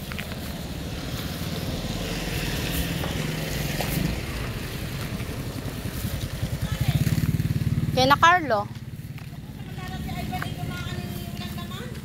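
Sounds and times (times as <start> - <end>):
small motorcycle engine approaching: 0.0 - 12.0.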